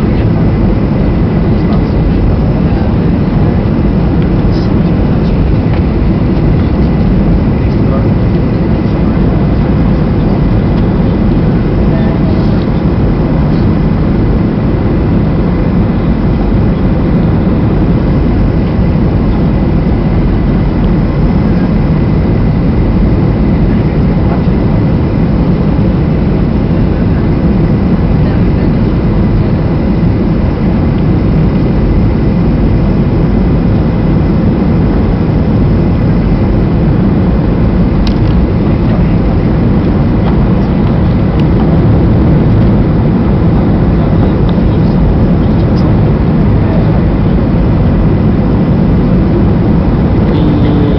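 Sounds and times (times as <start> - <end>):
airplane cabin engine roar: 0.0 - 50.9.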